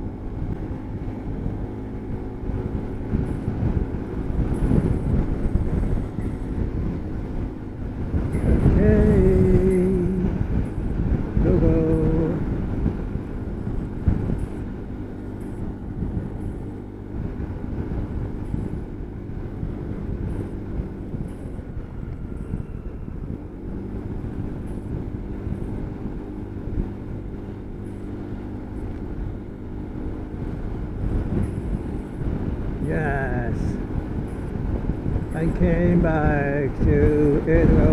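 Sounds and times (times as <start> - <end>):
motor scooter engine running: 0.0 - 37.9
wind rumbling on microphone: 0.0 - 37.9.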